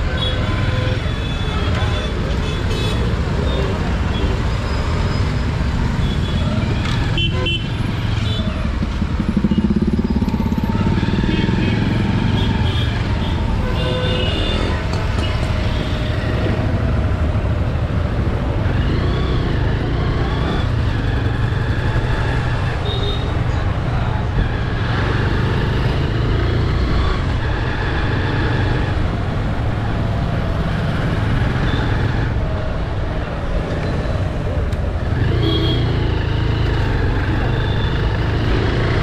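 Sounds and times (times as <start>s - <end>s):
traffic rumble: 0.0s - 39.0s.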